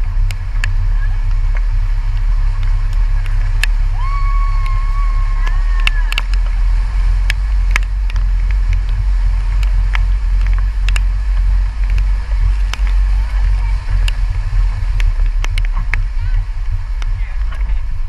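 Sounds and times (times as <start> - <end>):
vehicle driving through water rumble: 0.0 - 18.0.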